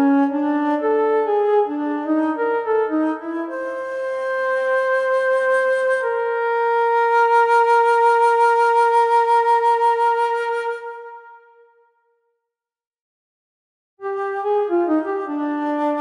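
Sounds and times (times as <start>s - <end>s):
flute-like wind instrument: 0.0s - 11.9s, 14.0s - 16.0s.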